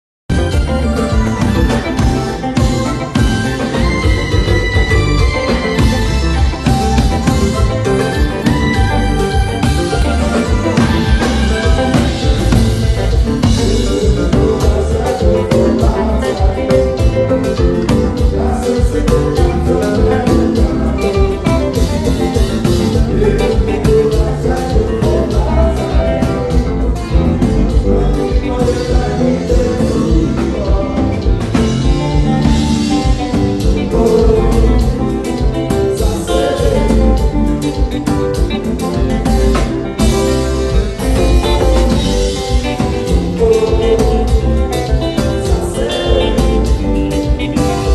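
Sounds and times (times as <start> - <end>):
band playing dance music: 0.3 - 47.9
guitar: 0.3 - 47.9
heavy bass: 0.3 - 47.9
steady beat: 0.3 - 47.9
person singing: 0.4 - 47.9.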